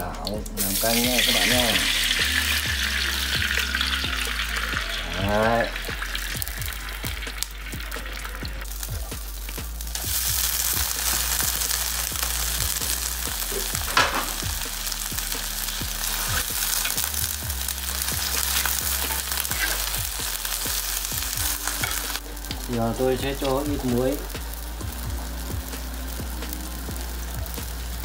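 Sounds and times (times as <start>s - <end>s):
leaves sizzling in a wok: 0.5s - 28.0s.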